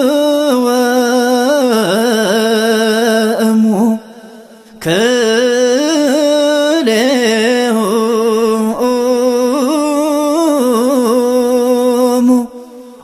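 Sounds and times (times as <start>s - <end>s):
man singing a hymn: 0.0s - 4.1s, 4.8s - 12.6s.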